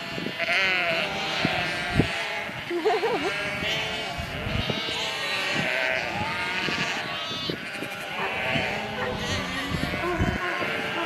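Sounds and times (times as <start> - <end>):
sheep bleating: 0.0 - 11.0.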